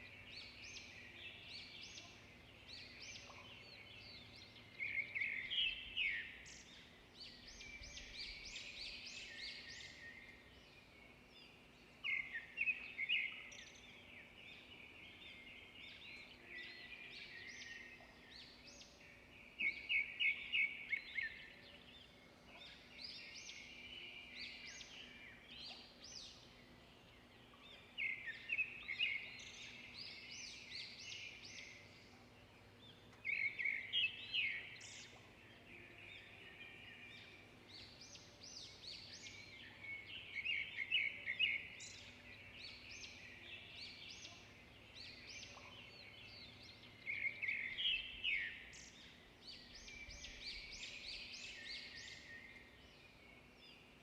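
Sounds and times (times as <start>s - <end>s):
birds chirping and twittering: 0.0s - 54.0s
songbirds singing: 0.0s - 54.0s.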